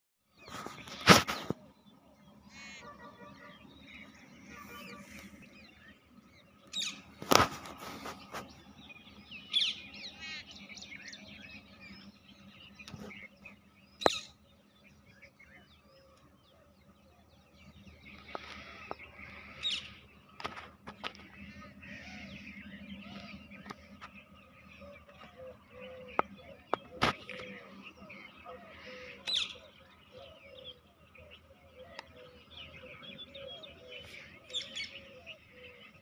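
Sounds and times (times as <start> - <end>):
birds chirping and trilling: 0.2 - 36.0.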